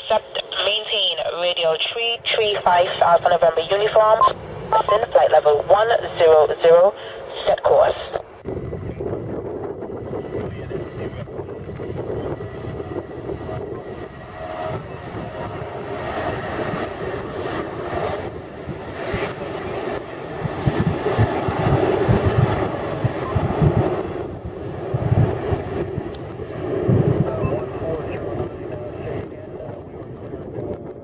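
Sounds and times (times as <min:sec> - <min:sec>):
jet engine roar: 0:00.0 - 0:31.0
deep rumble: 0:02.2 - 0:31.0.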